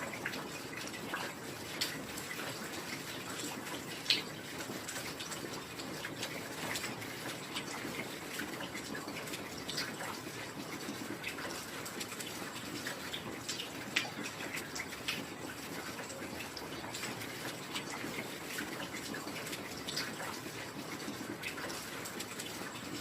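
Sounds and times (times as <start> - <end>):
raindrops ticking and plinking: 0.0 - 23.0.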